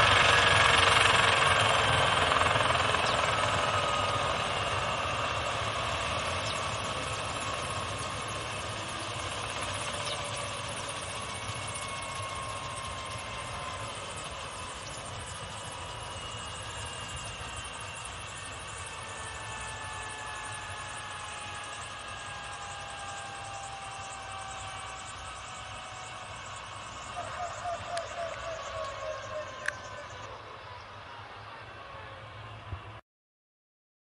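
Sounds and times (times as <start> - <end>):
helicopter turbine winding down: 0.0 - 33.0.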